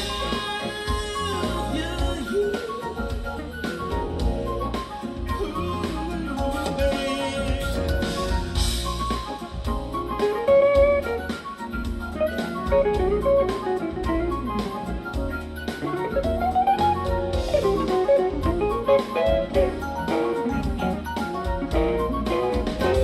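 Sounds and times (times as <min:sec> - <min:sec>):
drum kit: 0:00.0 - 0:23.0
lead guitar: 0:00.0 - 0:23.0.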